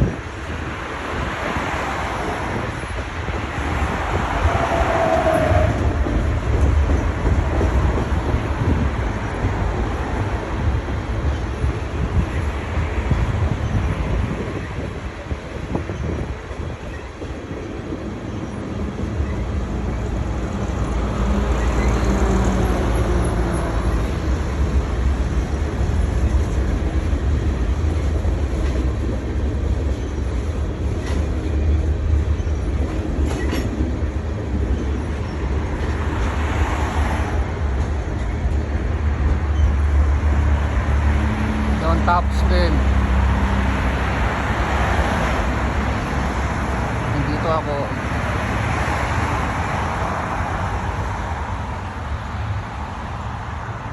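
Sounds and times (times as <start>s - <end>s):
train wheels rumbling and rattling: 0.0s - 53.9s.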